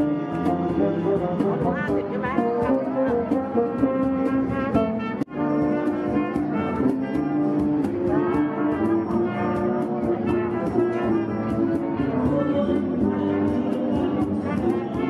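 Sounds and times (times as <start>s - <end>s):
brass music with steady beat: 0.0s - 15.0s.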